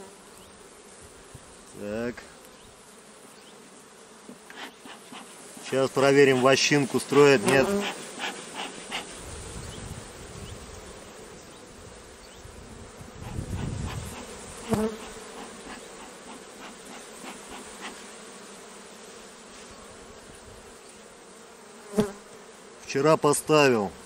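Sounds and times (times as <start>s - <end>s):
bee smoker bellows puffs: 0.0s - 21.1s
honeybees buzzing: 0.0s - 24.0s.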